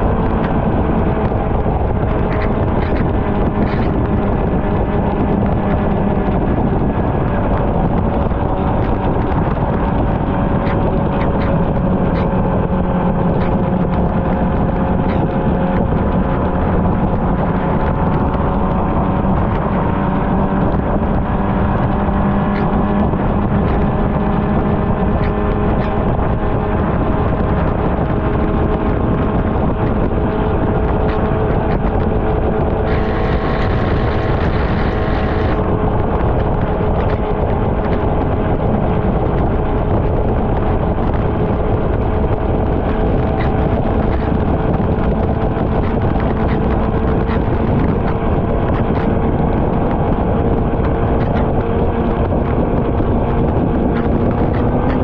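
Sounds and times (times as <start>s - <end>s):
motorcycle engine cruising: 0.0s - 55.0s
wind on microphone: 0.0s - 55.0s.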